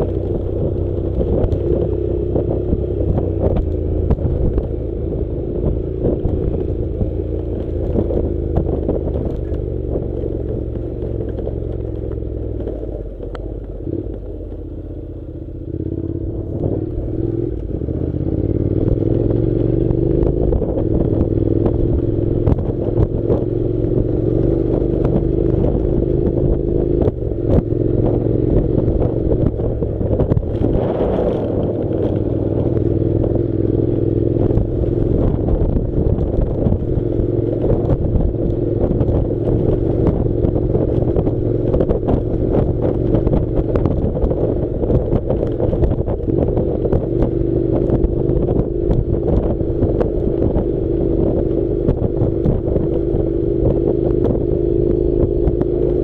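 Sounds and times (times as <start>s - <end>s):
motorcycle engine running: 0.0s - 56.0s
motorcycle rattling on rough track: 0.0s - 56.0s.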